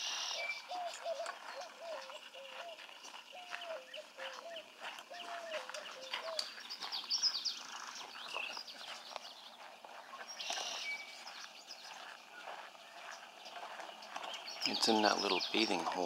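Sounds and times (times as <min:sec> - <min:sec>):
high bird chirps: 0:00.0 - 0:16.0
low hooting bird call: 0:00.0 - 0:16.0.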